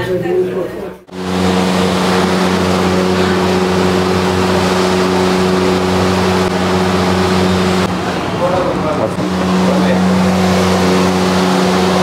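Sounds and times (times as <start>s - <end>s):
kitchen equipment humming: 0.0s - 12.0s.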